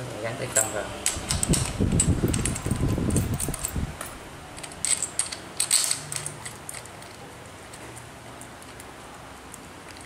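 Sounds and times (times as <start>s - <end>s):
metallic clicks and rattles: 0.6s - 10.0s.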